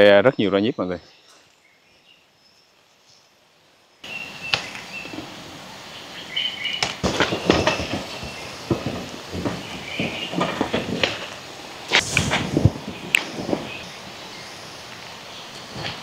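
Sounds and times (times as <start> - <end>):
leaves rustling: 0.0 - 16.0.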